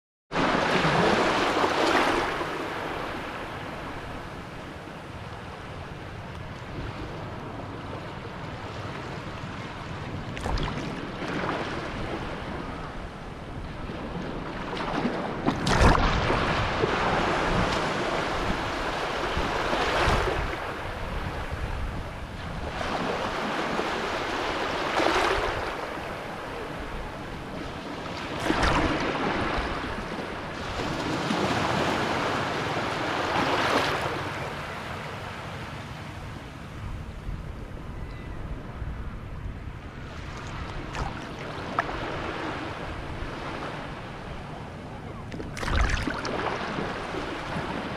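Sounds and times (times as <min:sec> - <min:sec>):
small waves breaking on shore: 0:00.3 - 0:36.6, 0:39.8 - 0:47.9.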